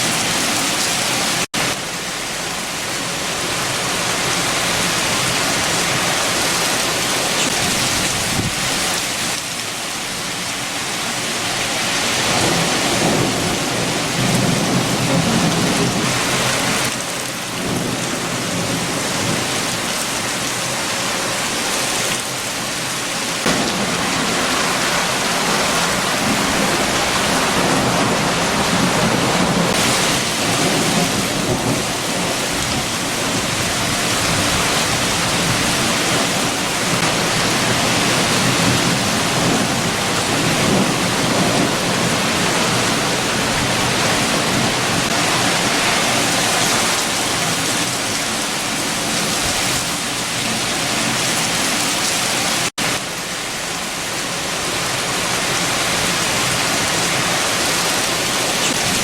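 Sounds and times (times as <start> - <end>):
heavy rain: 0.0 - 59.0
strong wind: 0.0 - 59.0.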